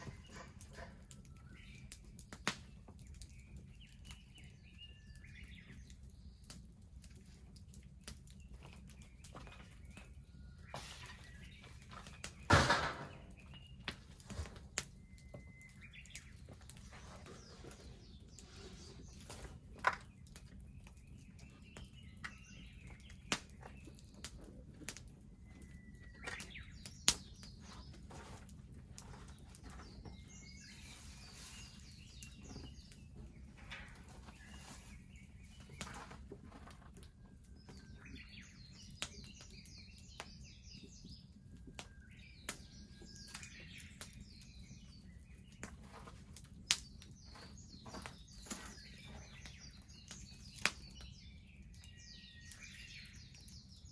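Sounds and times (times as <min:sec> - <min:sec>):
bonfire crackling and popping: 0:00.0 - 0:53.9
small birds chirping: 0:00.0 - 0:53.9.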